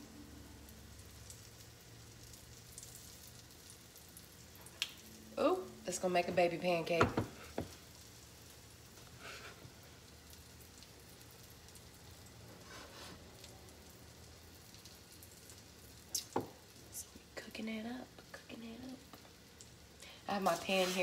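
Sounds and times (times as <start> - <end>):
batter sizzling in a frying pan: 0.0 - 21.0.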